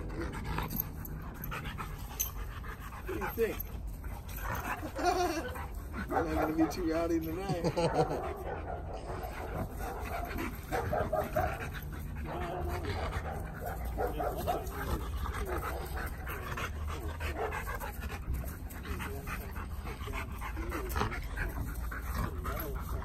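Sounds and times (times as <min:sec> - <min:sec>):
dogs whining: 0:00.0 - 0:23.0.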